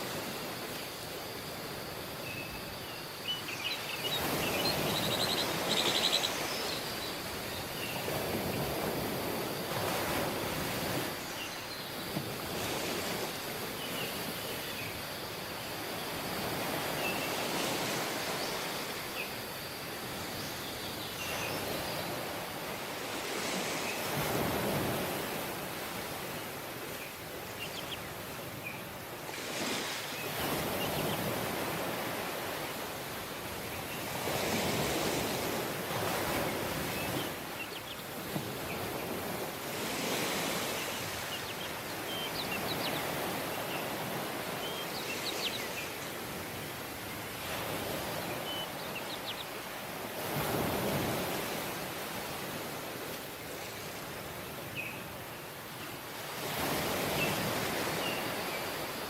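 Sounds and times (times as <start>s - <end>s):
waves breaking on a beach: 0.0s - 59.0s.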